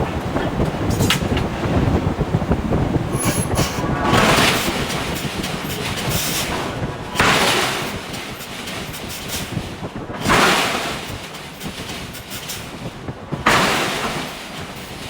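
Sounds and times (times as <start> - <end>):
workshop rumble: 0.0 - 15.0.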